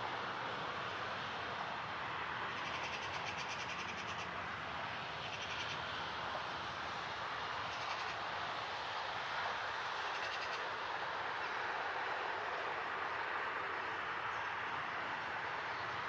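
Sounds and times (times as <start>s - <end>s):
rushing background noise: 0.0s - 16.0s.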